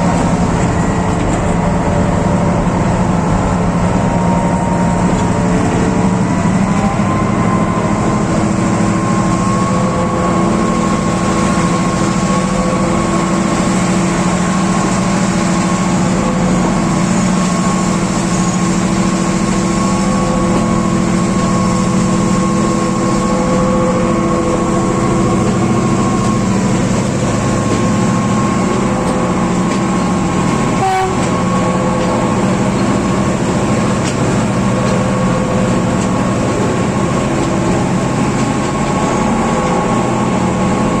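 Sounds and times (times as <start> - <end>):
constant whining tone: 0.0 - 41.0
diesel locomotive engine droning: 0.0 - 41.0.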